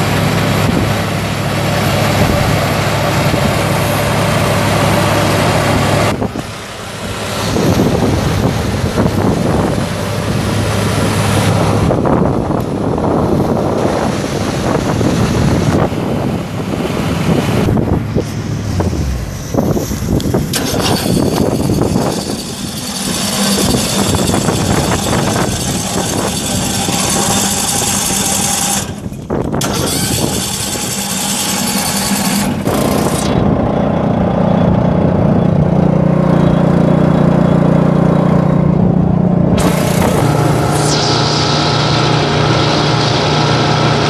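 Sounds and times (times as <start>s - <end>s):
loud rushing noise: 0.0s - 44.0s
small gas engine running: 0.0s - 44.0s.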